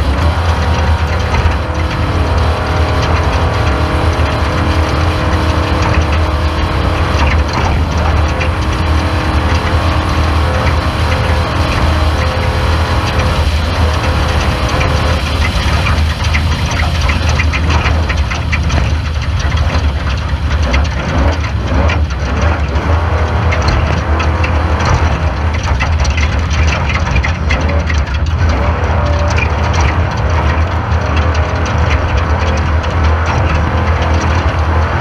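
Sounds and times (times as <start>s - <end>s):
dense rattling: 0.0s - 35.0s
race car engine drone: 0.0s - 35.0s.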